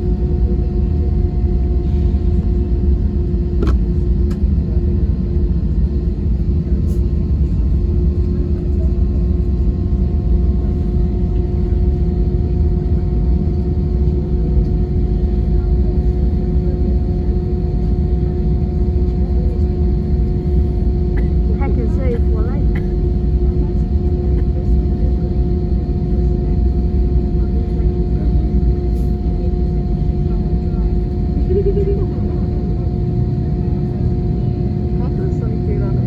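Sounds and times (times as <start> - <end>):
jet engine cabin rumble: 0.0 - 36.0.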